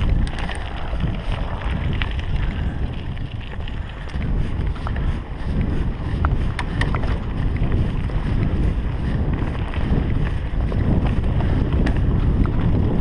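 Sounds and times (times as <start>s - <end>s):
bike clicks and rattles: 0.0s - 13.0s
wind rumbling on microphone: 0.0s - 13.0s.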